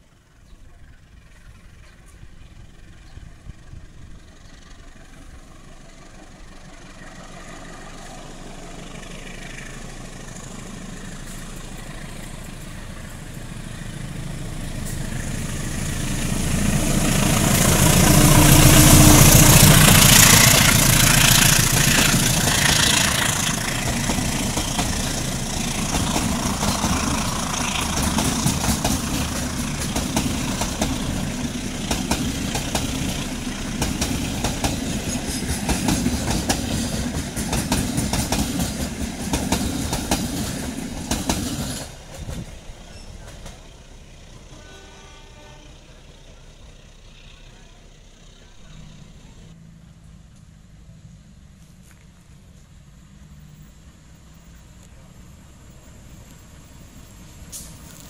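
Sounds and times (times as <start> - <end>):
diesel locomotive engine: 0.0 - 58.0
train wheels clicking on rail joints: 0.4 - 44.9, 53.6 - 58.0.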